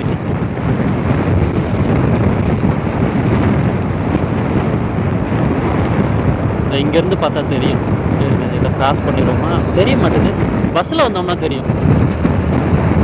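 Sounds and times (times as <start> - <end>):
motorcycle running: 0.0 - 13.0
road noise: 0.0 - 13.0
wind buffeting microphone: 0.0 - 13.0.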